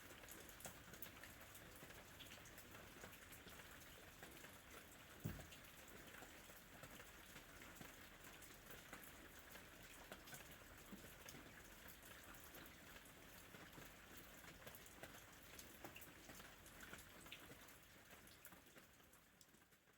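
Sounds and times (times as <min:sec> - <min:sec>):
rain falling: 0:00.0 - 0:19.9
raindrops pattering: 0:00.0 - 0:19.9.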